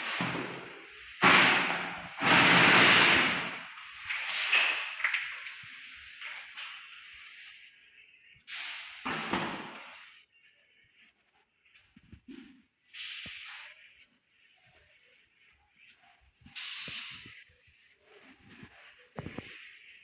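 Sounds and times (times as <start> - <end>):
broom sweeping floor: 0.0 - 20.0.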